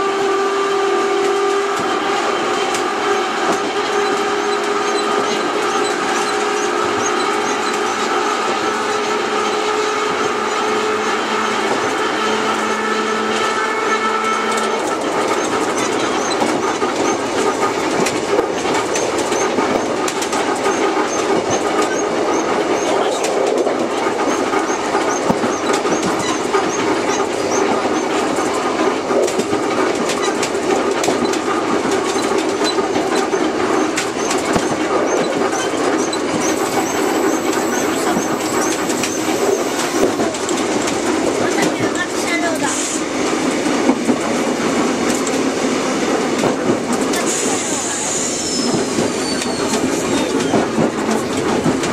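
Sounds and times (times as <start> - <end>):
train wheels clicking over rail joints: 1.2 - 51.9.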